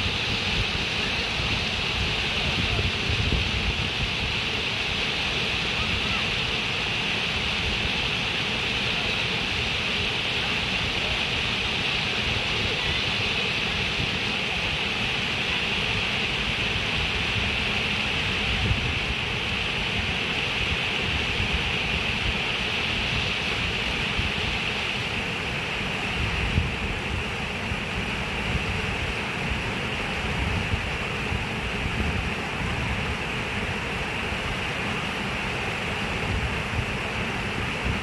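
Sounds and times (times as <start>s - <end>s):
running water rushing: 0.0s - 38.0s.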